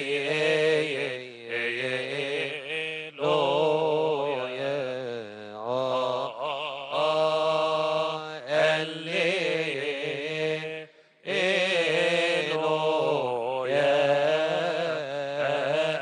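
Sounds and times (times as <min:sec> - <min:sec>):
man chanting a hymn: 0:00.0 - 0:16.0.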